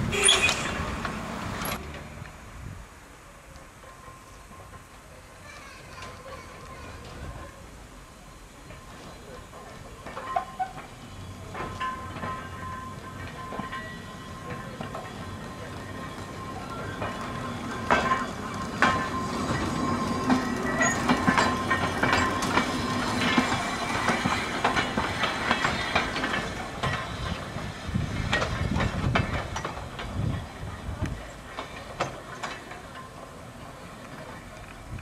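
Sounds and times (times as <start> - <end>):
tram wheels clattering on rails: 0.0 - 35.0.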